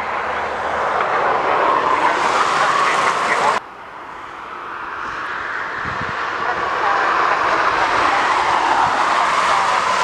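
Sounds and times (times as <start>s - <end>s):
jet engines at takeoff power: 0.0s - 10.0s.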